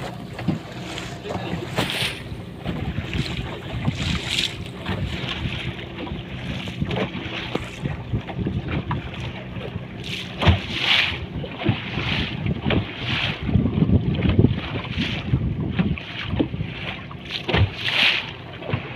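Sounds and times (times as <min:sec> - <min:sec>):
wind buffeting microphone: 0:00.0 - 0:17.8
boat engine running: 0:00.0 - 0:18.9
water splashing on hull: 0:00.0 - 0:18.9.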